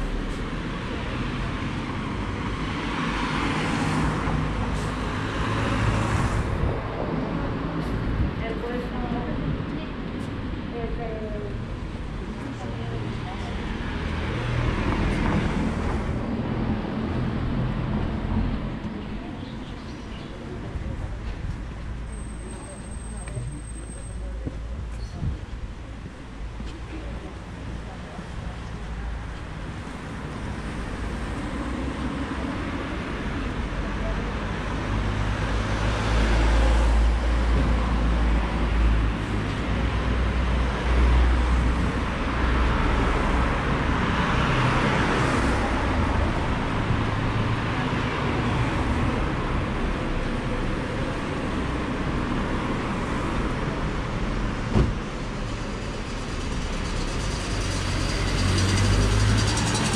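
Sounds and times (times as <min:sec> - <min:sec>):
cars driving past: 0:00.0 - 0:10.7, 0:11.5 - 0:24.5, 0:26.0 - 0:59.9.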